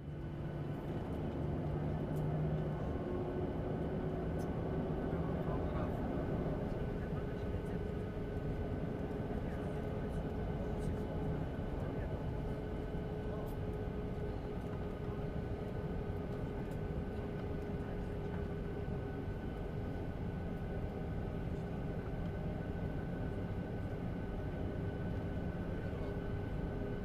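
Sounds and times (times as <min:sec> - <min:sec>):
faint jet engine whine: 0:00.0 - 0:27.0
jet engine rumble in cabin: 0:00.0 - 0:27.0.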